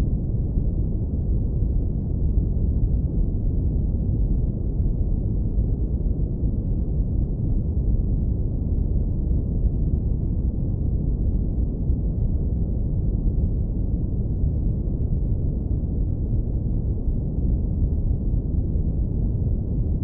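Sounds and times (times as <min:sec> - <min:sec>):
deep brown noise rumble: 0:00.0 - 0:20.0.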